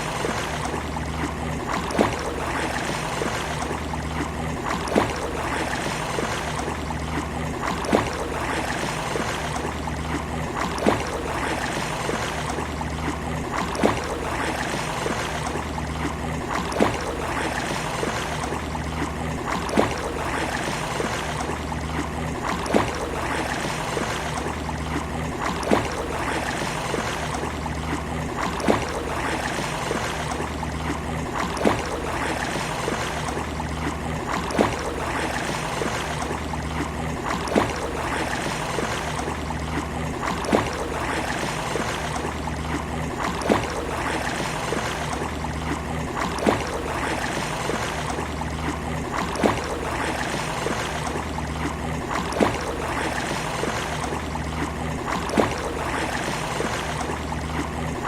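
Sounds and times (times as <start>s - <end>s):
sea waves washing on beach: 0.0s - 58.0s.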